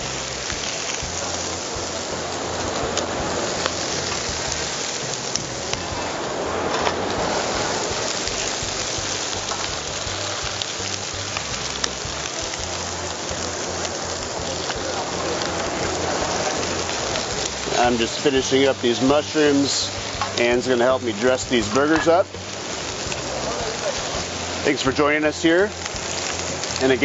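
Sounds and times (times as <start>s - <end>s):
meat and mushrooms sizzling on griddle: 0.0s - 27.0s.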